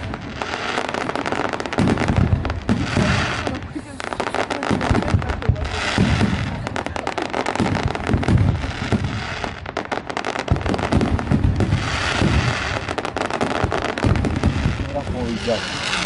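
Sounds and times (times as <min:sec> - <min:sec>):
fireworks bangs and booms: 0:00.0 - 0:16.0
fireworks sizzling crackle: 0:00.0 - 0:16.0.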